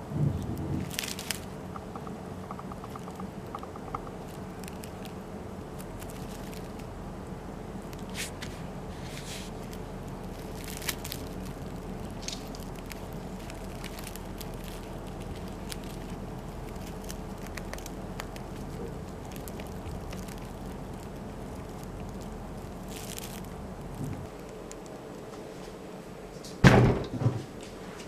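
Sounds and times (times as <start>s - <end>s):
dry hay crackling and rustling: 0.0s - 26.0s
low room hum: 0.0s - 28.0s.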